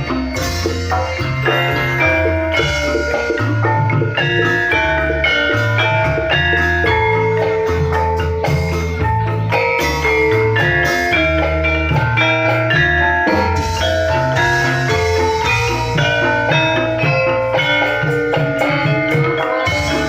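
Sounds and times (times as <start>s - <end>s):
held bass notes: 0.0s - 20.0s
mallet percussion melody: 0.0s - 20.0s.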